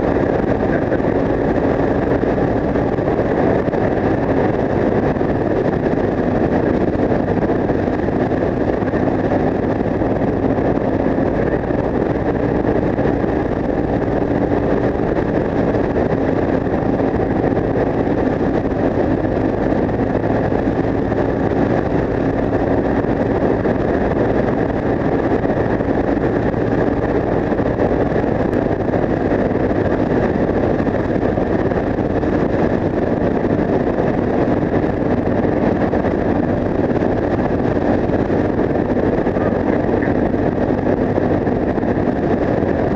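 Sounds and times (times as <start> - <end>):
motorcycle engine cruising: 0.0 - 42.9
wind noise on microphone: 0.0 - 42.9.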